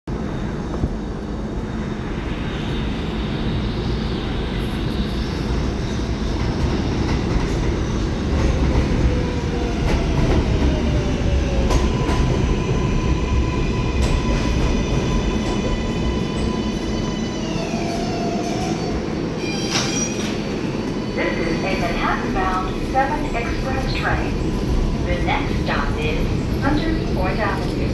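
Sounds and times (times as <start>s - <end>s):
rumble of train wheels on rail: 0.1s - 27.9s.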